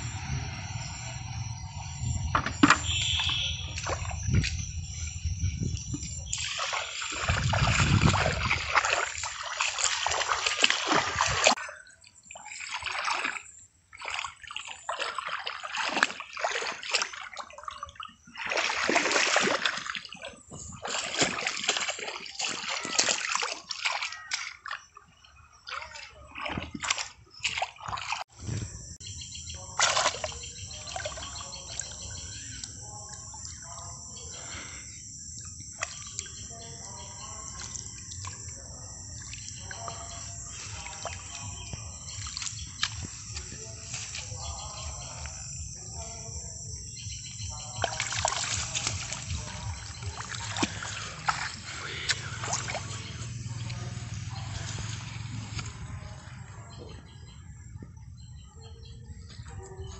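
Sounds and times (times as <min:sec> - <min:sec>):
hands splashing in muddy water: 0:02.6 - 0:05.0, 0:05.9 - 0:28.8, 0:29.5 - 0:34.8, 0:35.7 - 0:46.4, 0:47.0 - 0:56.5.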